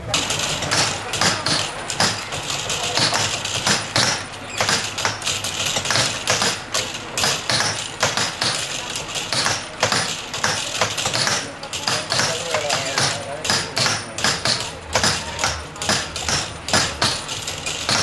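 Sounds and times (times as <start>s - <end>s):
wooden clacking and knocking: 0.0s - 18.0s.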